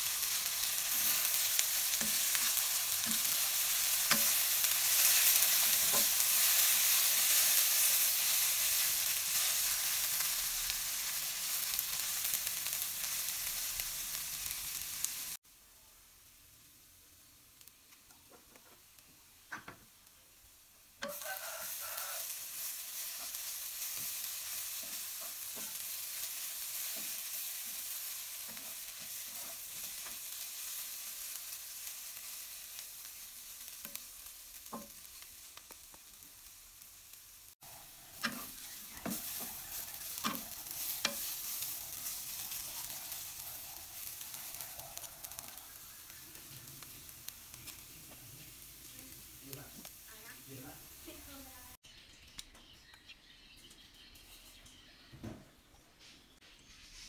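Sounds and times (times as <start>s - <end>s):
ginger sizzling in oil: 0.0s - 15.4s, 16.1s - 51.8s.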